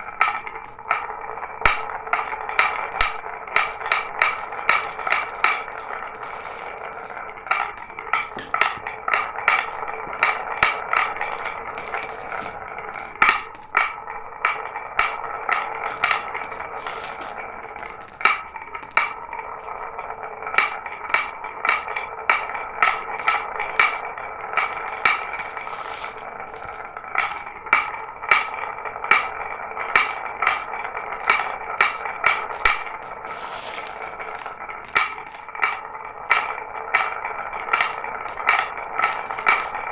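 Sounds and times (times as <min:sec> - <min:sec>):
glass marbles rolling on track: 0:00.0 - 0:39.9
marbles clicking: 0:00.0 - 0:39.9.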